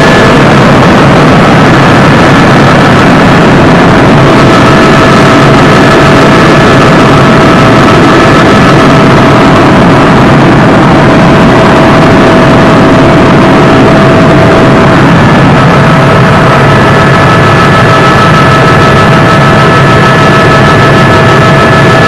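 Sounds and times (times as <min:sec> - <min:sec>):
helicopter engine and rotor noise: 0:00.0 - 0:22.0
high whine: 0:00.0 - 0:22.0.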